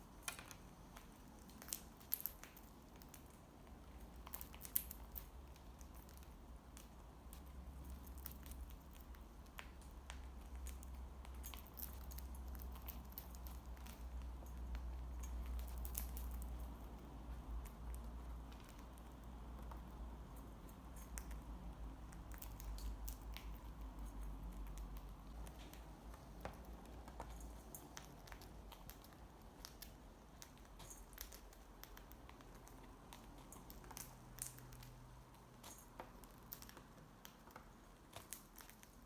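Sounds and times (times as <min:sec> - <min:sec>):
beaks nibbling food: 0:00.1 - 0:39.0.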